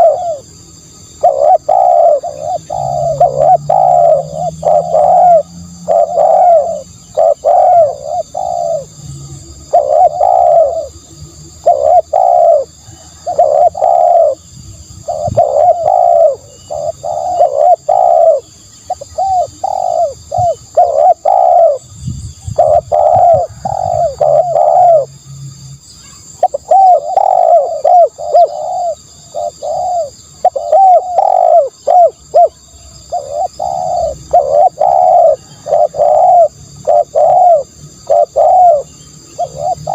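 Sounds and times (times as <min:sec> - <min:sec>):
dove cooing: 0:00.0 - 0:25.1, 0:26.2 - 0:39.9.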